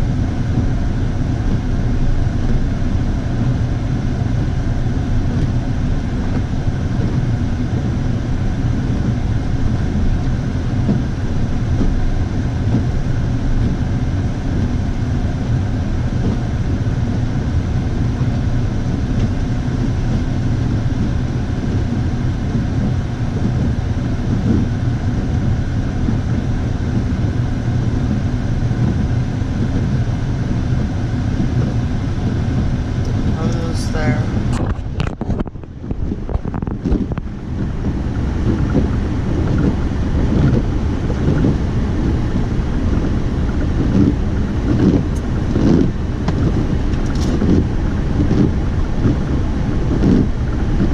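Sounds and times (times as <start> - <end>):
vehicle engine drone: 0.0 - 50.9.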